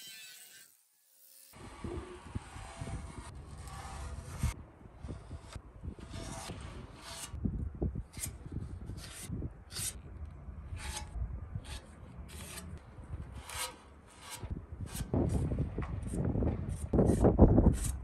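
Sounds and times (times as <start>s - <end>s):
putty knife scraping metal: 1.8s - 7.4s, 8.1s - 10.0s, 10.7s - 18.0s.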